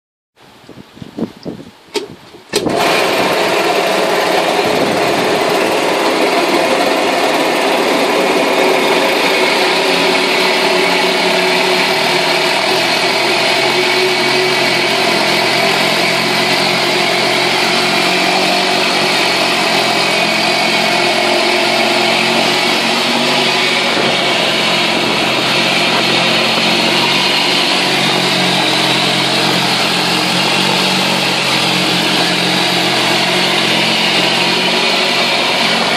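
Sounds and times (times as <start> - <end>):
propeller churning water: 1.8 - 35.9
outboard motor running: 2.5 - 35.9.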